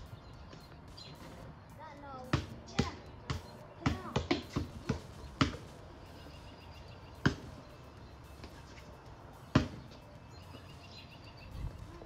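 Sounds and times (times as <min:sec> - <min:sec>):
basketball bouncing on concrete: 0:00.3 - 0:10.7.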